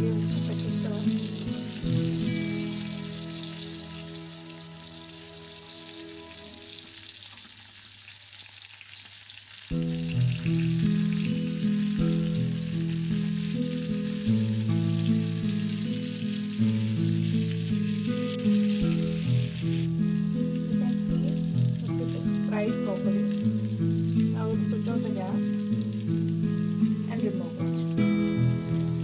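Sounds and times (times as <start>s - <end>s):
background music: 0.0s - 7.3s, 9.8s - 29.0s
fish frying in hot oil: 0.0s - 29.0s.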